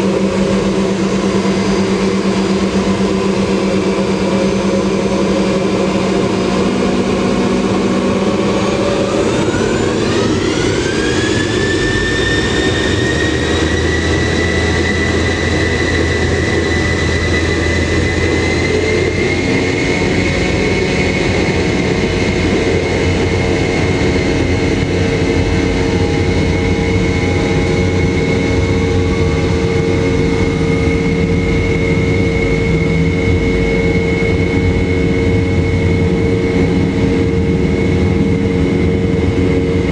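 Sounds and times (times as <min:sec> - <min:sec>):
jet engine whine: 0:00.0 - 0:39.9
loud constant engine rumble: 0:00.0 - 0:39.9.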